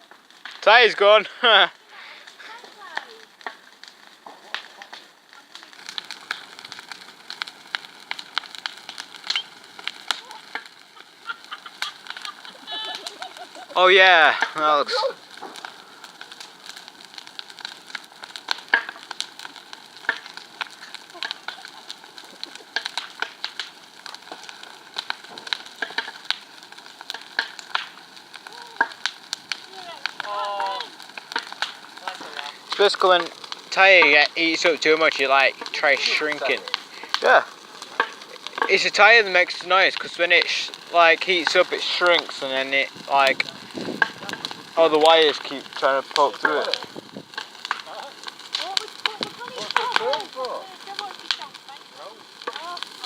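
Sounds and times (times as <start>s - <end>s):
bonfire crackling and popping: 0.0s - 53.0s
steady fire hiss: 0.0s - 53.0s.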